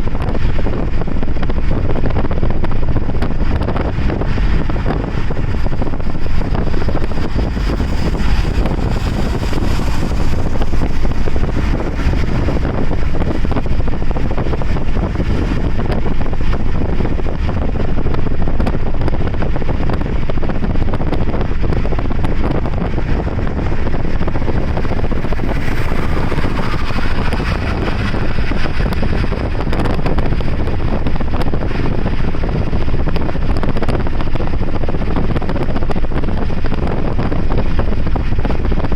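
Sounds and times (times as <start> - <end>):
car driving rumble: 0.0 - 38.9
wind buffeting microphone: 0.0 - 38.9.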